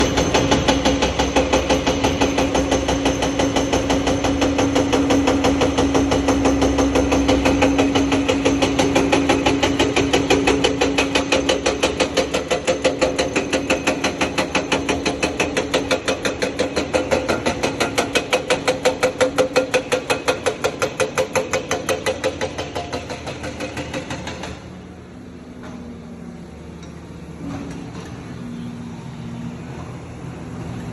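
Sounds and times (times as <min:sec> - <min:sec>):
hydraulic rock breaker hammering: 0:00.0 - 0:24.8
diesel engine running steadily: 0:00.0 - 0:30.9.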